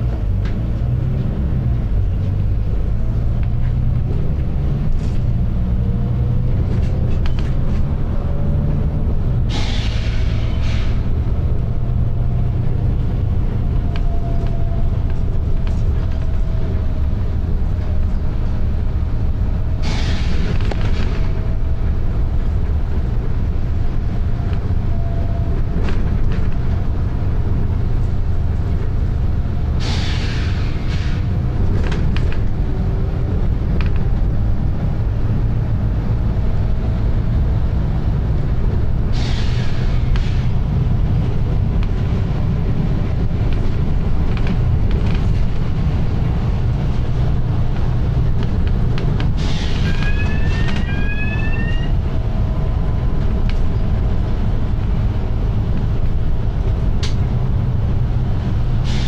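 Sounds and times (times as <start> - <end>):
diesel bus engine drone: 0.0 - 59.0.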